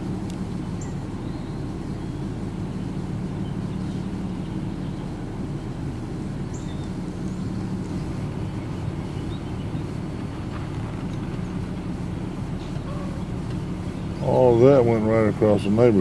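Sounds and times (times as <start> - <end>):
car interior engine rumble: 0.0 - 16.0.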